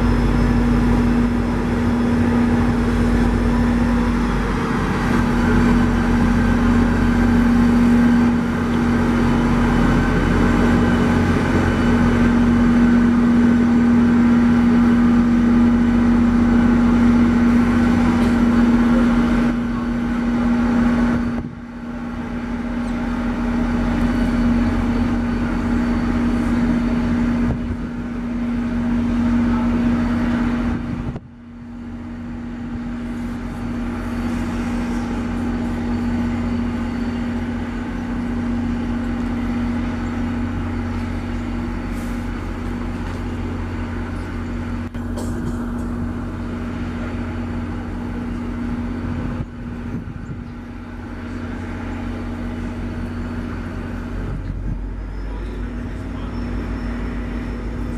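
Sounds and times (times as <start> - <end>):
diesel locomotive engine idling: 0.0 - 57.9.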